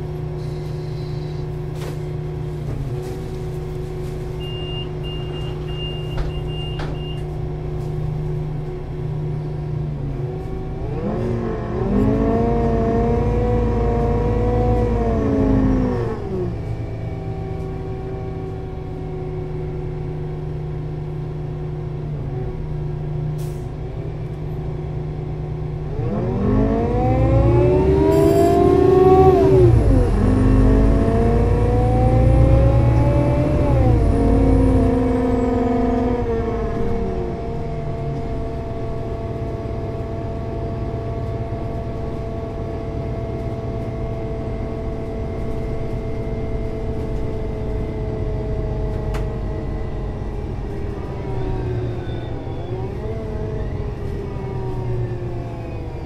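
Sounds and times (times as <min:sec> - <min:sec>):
bus diesel engine accelerating: 0:00.0 - 0:56.0.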